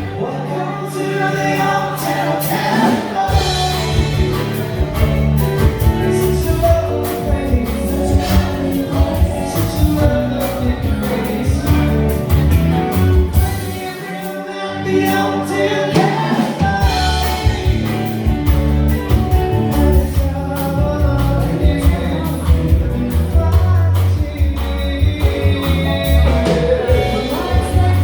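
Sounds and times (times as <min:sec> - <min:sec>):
band music with singing: 0:00.0 - 0:28.0.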